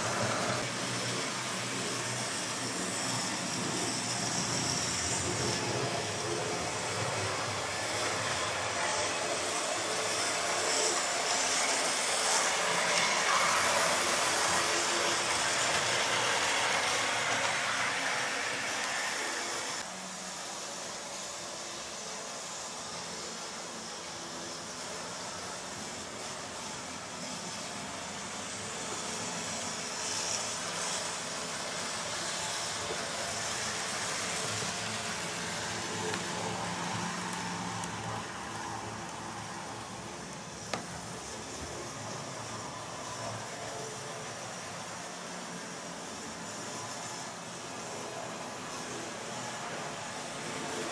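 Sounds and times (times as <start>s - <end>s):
model trains whirring on track: 0.0s - 50.9s.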